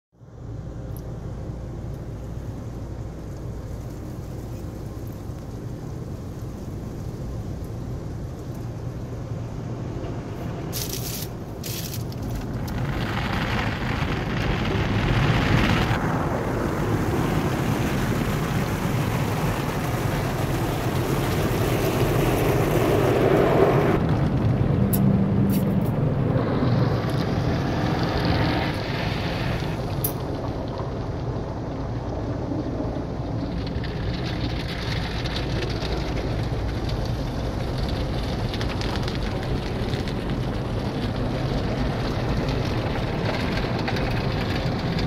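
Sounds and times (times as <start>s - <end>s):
car wash water spray: 1.1s - 45.0s.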